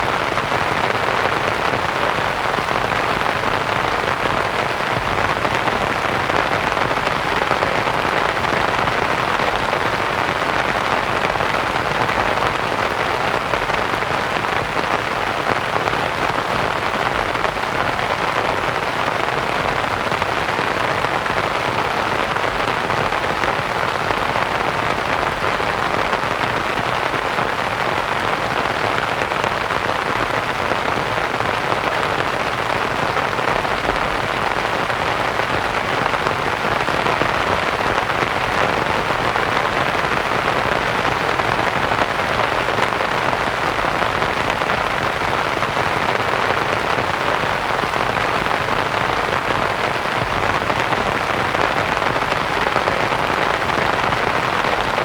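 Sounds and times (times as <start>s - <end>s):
rain pattering on canvas tent: 0.0s - 55.0s.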